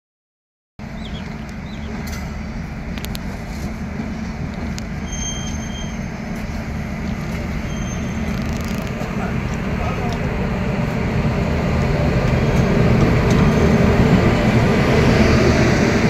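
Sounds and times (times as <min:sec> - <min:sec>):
electric locomotive humming: 0:00.8 - 0:16.0.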